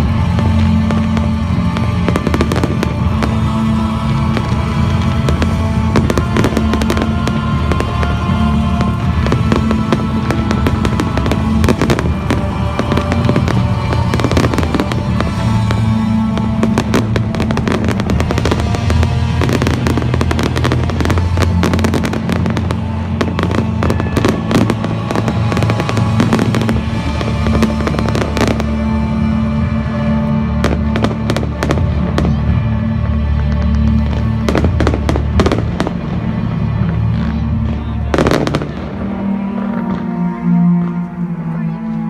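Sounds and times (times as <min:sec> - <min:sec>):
fireworks bangs and crackles: 0:00.0 - 0:41.2
music soundtrack: 0:00.0 - 0:42.0.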